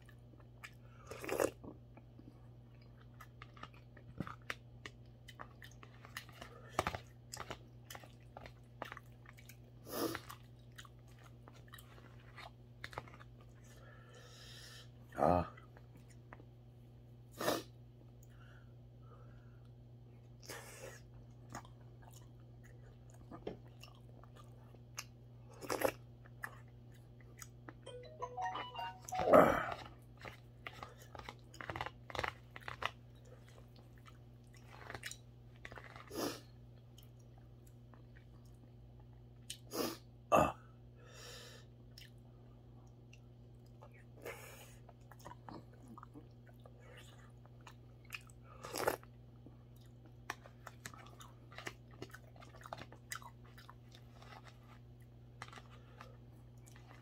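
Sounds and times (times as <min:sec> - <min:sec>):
person chewing: 0:00.0 - 0:13.8, 0:20.4 - 0:27.8, 0:29.4 - 0:40.0, 0:41.9 - 0:42.2, 0:42.8 - 0:57.0.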